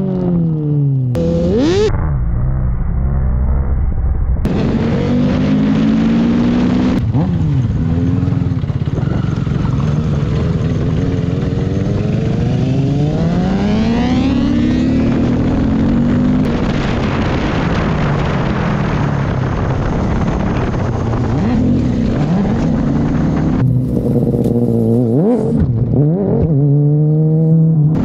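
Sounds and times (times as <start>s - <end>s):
wind and road noise: 0.0s - 3.1s, 3.7s - 28.0s
motorcycle engine revving: 0.0s - 3.7s, 4.4s - 28.0s
motorcycle engine accelerating: 0.0s - 28.0s.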